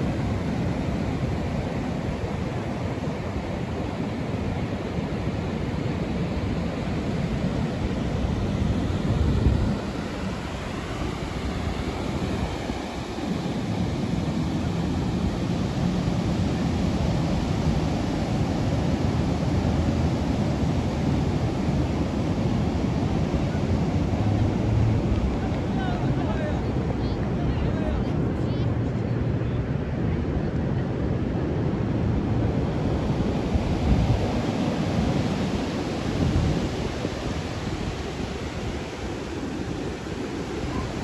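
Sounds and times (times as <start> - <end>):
sea water: 0.0 - 27.4, 32.0 - 41.0
wind on microphone: 0.0 - 41.0.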